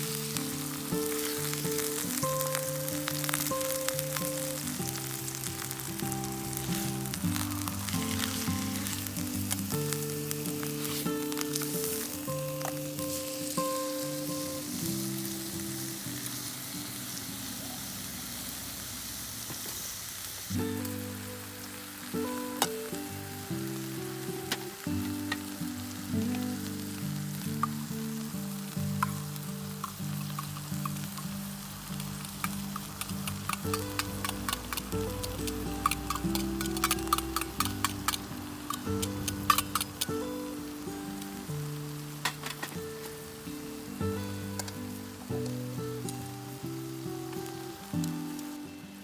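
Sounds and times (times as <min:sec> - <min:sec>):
background music of held notes: 0:00.0 - 0:16.6, 0:20.6 - 0:49.0
food sizzling in a pan: 0:00.0 - 0:49.0.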